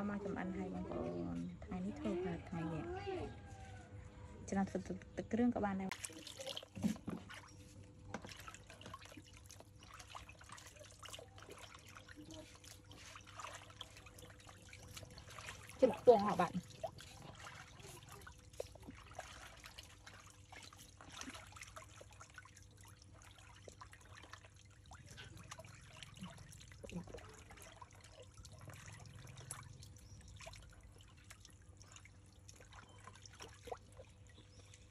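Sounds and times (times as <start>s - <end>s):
water splashing and trickling: 4.7s - 34.9s.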